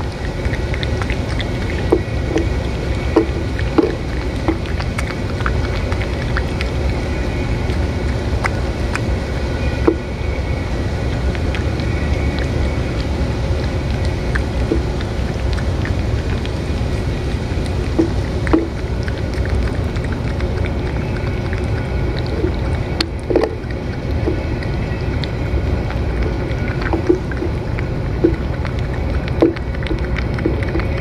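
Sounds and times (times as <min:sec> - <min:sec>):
cat eating wet food: 0:00.0 - 0:31.0
low background rumble: 0:00.0 - 0:31.0
wet smacks and licking clicks: 0:00.0 - 0:31.0.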